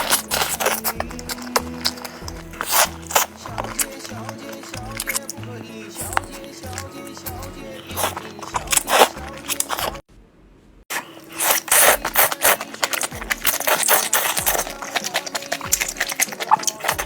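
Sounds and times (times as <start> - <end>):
background music: 0.0 - 10.0, 11.4 - 17.0
close crunching and chewing: 0.0 - 10.1, 10.9 - 17.0.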